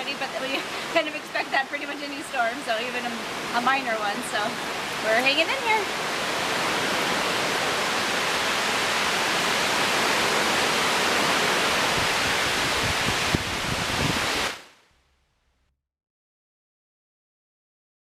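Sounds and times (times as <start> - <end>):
heavy rain and wind: 0.0 - 14.9.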